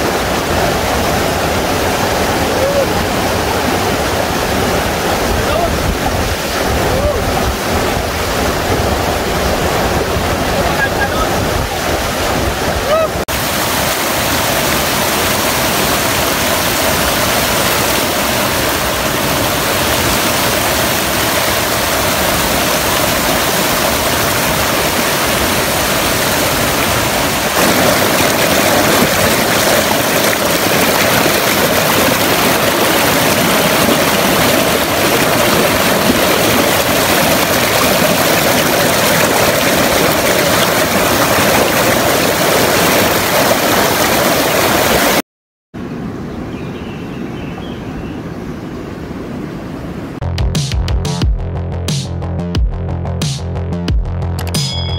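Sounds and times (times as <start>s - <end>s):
river water rushing: 0.0s - 45.2s.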